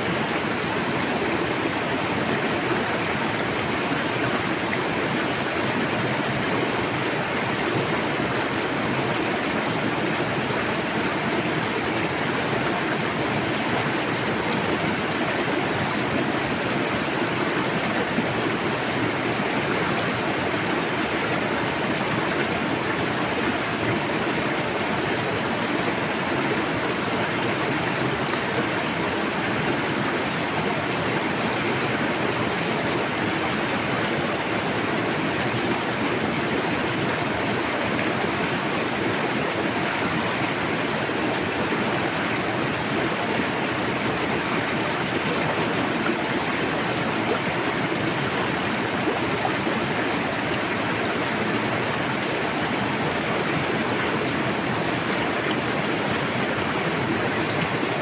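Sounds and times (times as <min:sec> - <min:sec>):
fast river rushing: 0:00.0 - 0:58.0.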